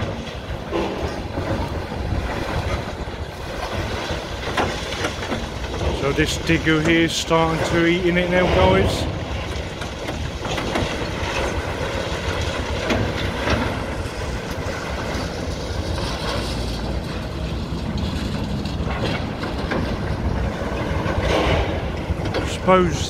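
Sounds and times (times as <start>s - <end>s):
concrete rubble crunching and clattering: 0.0s - 23.0s
excavator engine rumble: 0.0s - 23.0s.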